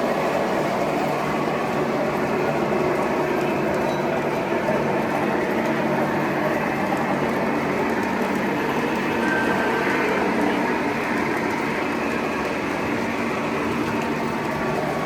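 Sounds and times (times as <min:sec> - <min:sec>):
toy trains rumbling on track: 0:00.0 - 0:15.0.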